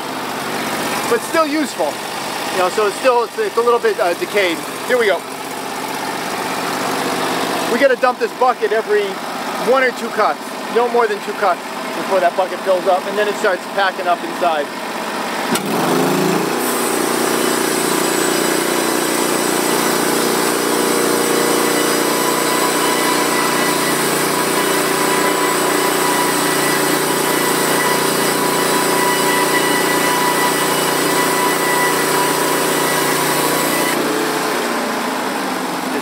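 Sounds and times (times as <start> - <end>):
band sawmill cutting log: 0.0 - 36.0.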